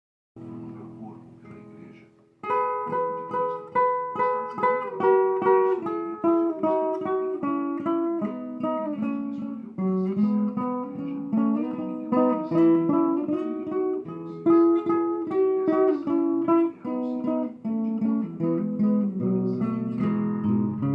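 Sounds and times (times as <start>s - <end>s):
guitar chords plucked and strummed: 0.4s - 20.9s.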